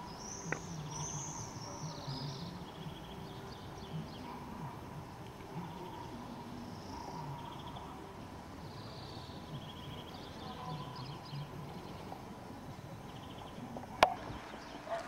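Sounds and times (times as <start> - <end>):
small birds chirping: 0.0 - 15.0
steady low background noise: 0.0 - 15.0.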